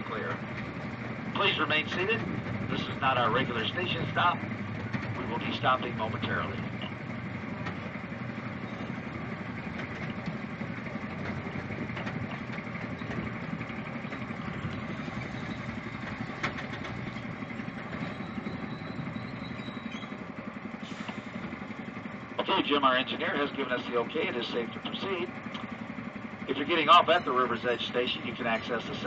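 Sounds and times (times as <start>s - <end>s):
locomotive engine idling: 0.0s - 29.0s.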